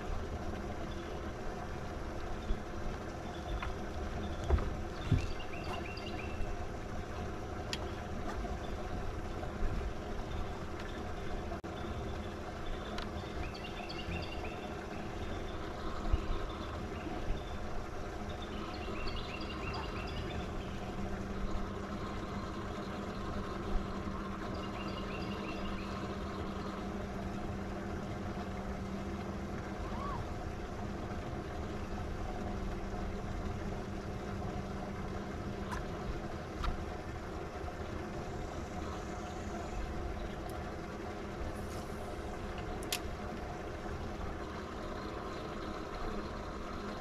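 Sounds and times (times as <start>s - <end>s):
boat motor humming: 0.0s - 47.0s.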